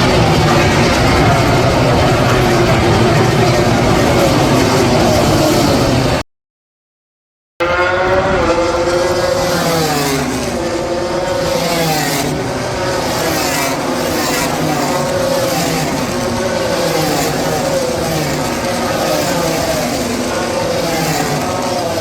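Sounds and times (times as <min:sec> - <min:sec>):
racing motorcycle engines revving: 0:00.0 - 0:06.2, 0:07.6 - 0:22.0.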